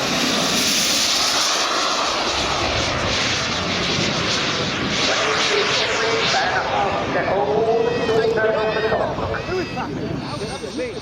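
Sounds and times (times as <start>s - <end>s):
model jet turbine drone: 0.0s - 11.0s.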